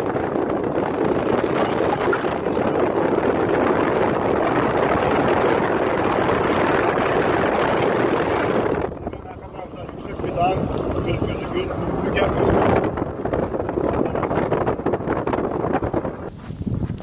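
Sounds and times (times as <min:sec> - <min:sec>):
car road noise: 0:00.0 - 0:17.0
wind on microphone: 0:00.0 - 0:17.0.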